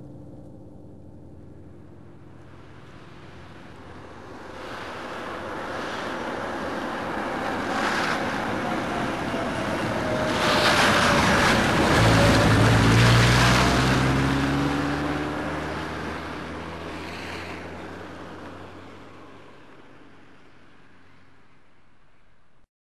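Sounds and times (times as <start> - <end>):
van driving past: 2.3 - 21.4.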